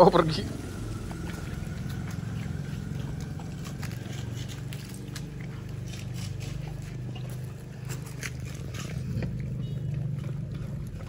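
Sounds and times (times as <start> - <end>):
low engine-like hum: 0.0 - 11.0
dog chewing clicks and scrapes: 0.8 - 11.0.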